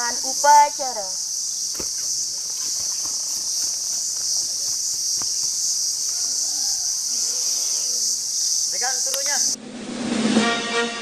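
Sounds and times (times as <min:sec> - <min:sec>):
insects buzzing: 0:00.0 - 0:09.6.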